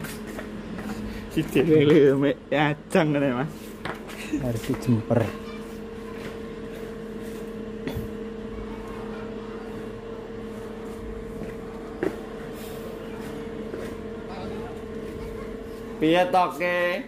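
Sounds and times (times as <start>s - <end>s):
amplifier electrical hum: 0.0s - 17.0s.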